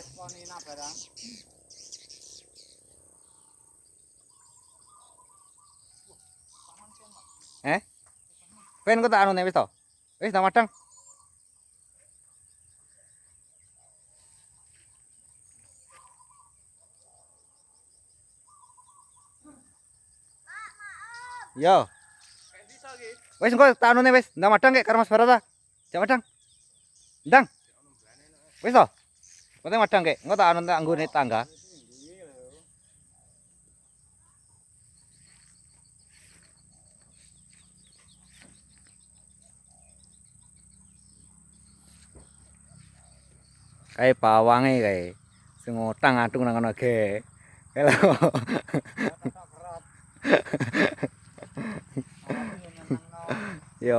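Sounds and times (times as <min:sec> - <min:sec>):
faint bird chirps: 0:00.0 - 0:53.9.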